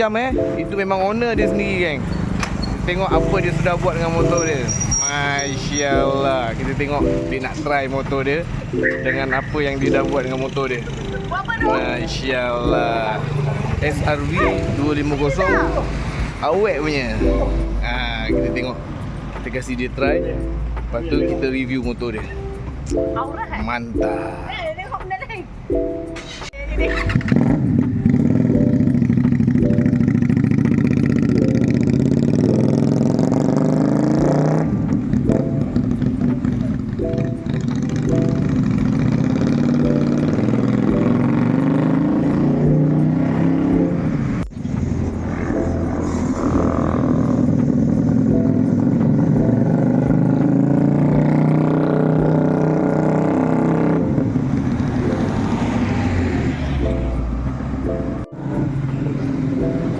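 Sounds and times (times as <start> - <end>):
motorcycle engine running: 0.0 - 23.8, 26.2 - 59.9.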